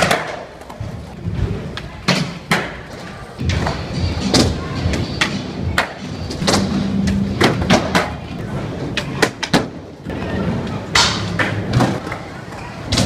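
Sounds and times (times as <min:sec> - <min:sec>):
skateboard clacks and slaps: 0:00.0 - 0:13.0
skateboard wheels rolling: 0:00.0 - 0:13.0.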